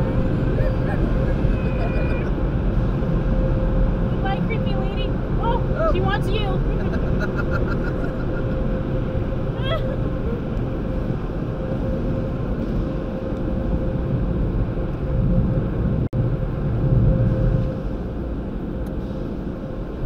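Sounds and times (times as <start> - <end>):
car low rumble: 0.0 - 20.0
faint steady whine: 0.0 - 20.0.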